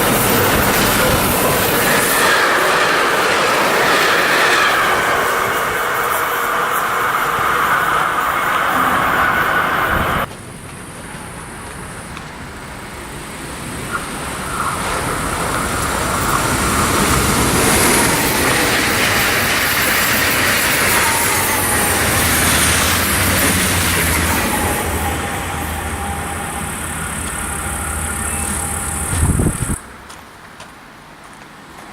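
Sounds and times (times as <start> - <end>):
train passing: 0.0 - 31.9
train wheels on rails: 0.0 - 31.9.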